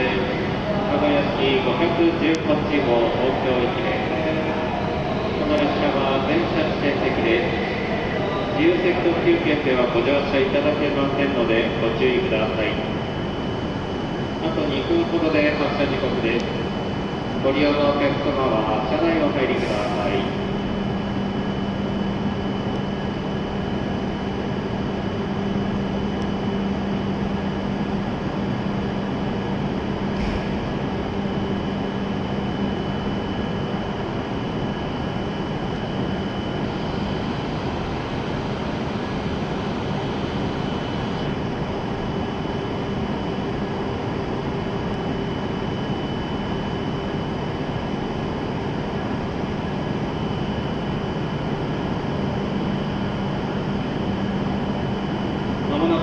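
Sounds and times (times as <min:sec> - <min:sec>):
faint steady whine: 0:00.0 - 0:56.0
stationary train humming: 0:00.0 - 0:56.0.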